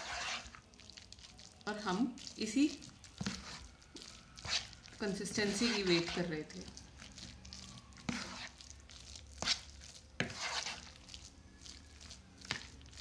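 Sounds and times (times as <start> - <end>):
spoon scraping crumbly mixture: 0.0 - 13.0.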